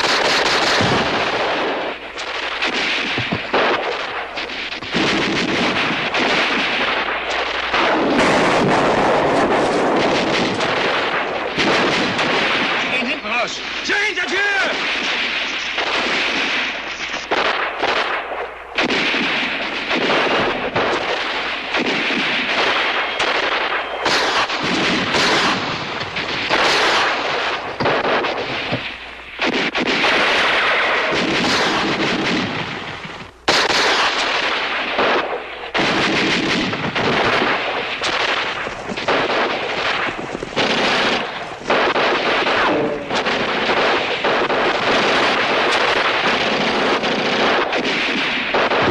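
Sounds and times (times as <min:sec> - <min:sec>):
rifles firing rapidly: 0:00.0 - 0:48.9.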